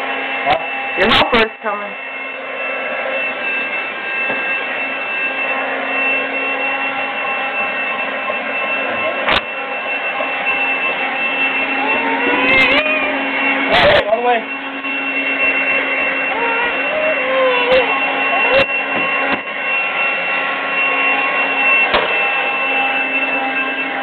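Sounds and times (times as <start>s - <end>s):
vacuum cleaner whining: 0.0s - 24.0s.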